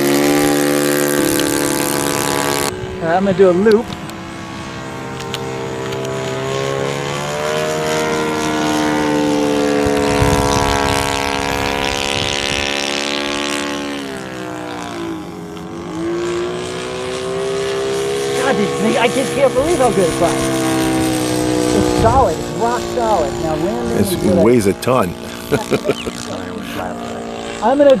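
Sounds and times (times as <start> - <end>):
model airplane engine running: 0.0 - 28.0.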